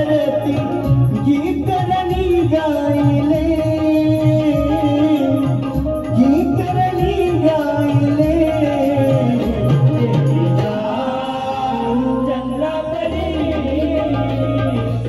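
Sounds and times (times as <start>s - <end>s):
drum accompaniment: 0.0s - 15.0s.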